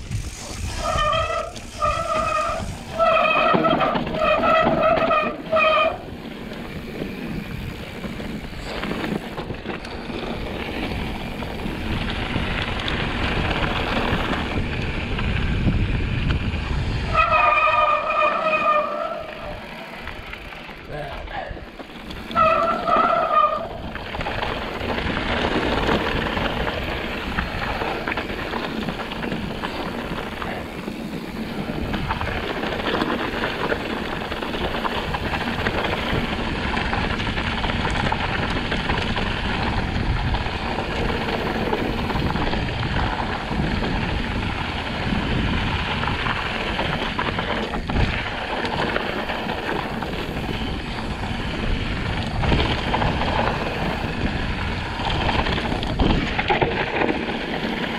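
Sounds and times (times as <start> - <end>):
bike tyres rumbling and rattling: 0.0 - 57.9
wind buffeting microphone: 0.0 - 57.9.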